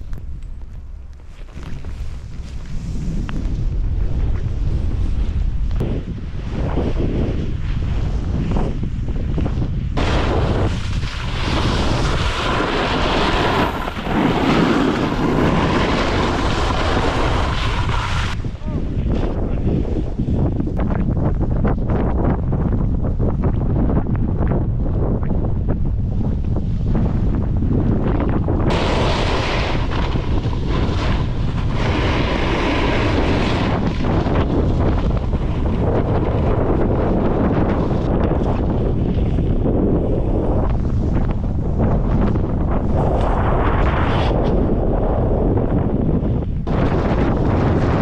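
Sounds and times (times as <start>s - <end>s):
wind rushing over microphone: 0.0s - 48.0s
snowboards sliding on snow: 1.3s - 20.7s, 26.6s - 48.0s.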